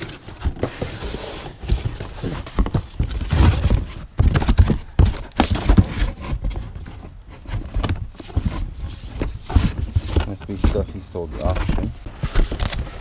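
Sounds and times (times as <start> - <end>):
rummaging in cardboard box: 0.0 - 13.0.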